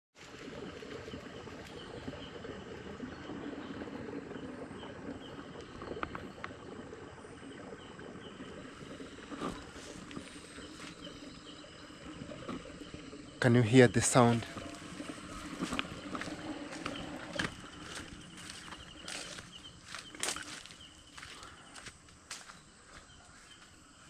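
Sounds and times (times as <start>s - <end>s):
high insect whine: 0.2s - 24.0s.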